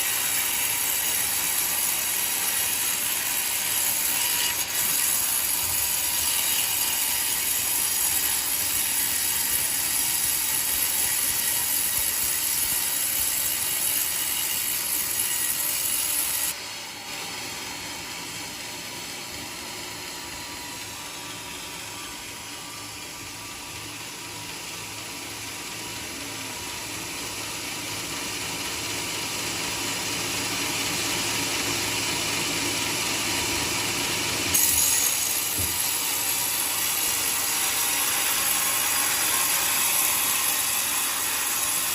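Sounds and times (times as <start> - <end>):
sawmill sawing wood: 0.0 - 41.9.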